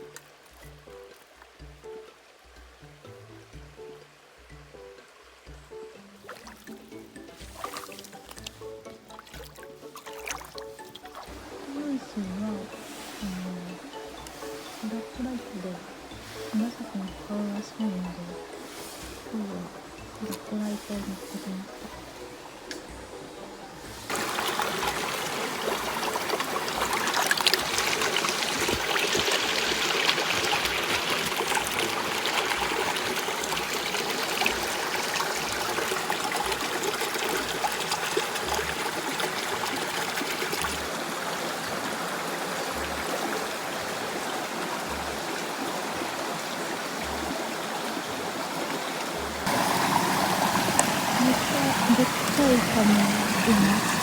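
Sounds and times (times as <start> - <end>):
river water flowing over stones: 0.0 - 54.0.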